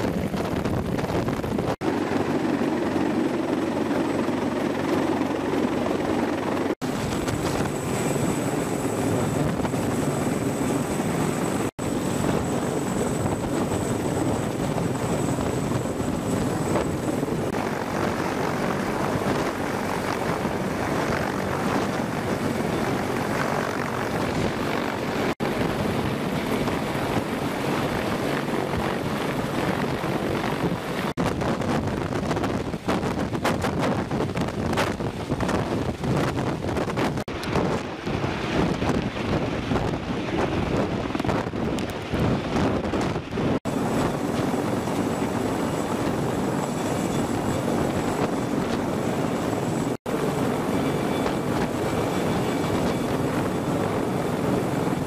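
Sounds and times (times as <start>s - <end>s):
helicopter rotors churning: 0.0s - 55.0s
high turbine whine: 0.0s - 55.0s.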